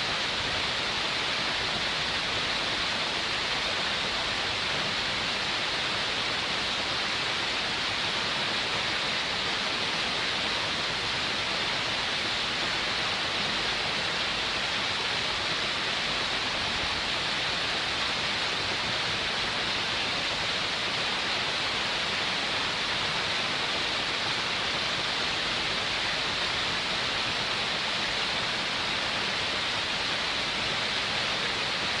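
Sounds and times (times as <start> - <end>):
waterfall splashing: 0.0 - 32.0.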